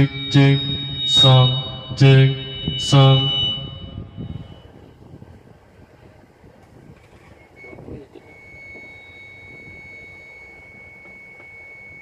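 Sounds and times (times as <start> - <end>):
high steady feedback whistle: 0.0 - 5.2, 7.2 - 12.0.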